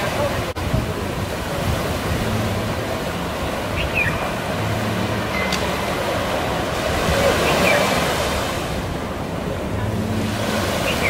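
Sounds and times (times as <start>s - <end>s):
surf washing onto beach: 0.0s - 11.0s.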